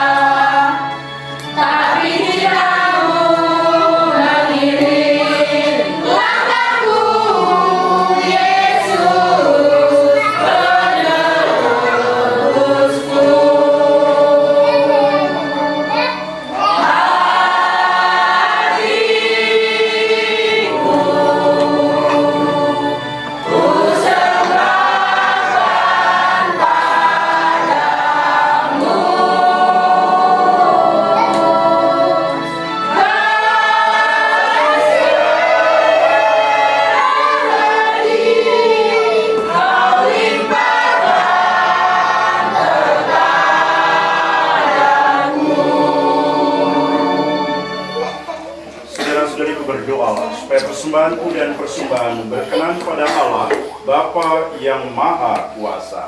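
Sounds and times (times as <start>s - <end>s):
congregation singing a hymn: 0.0s - 56.0s.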